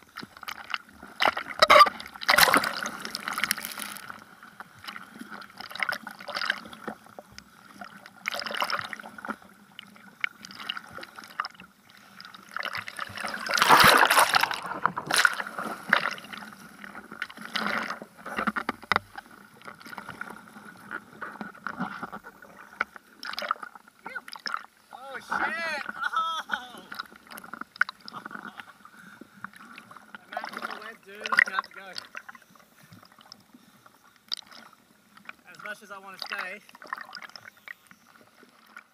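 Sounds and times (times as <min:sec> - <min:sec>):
ocean water splashing and sloshing: 0:00.0 - 0:38.9.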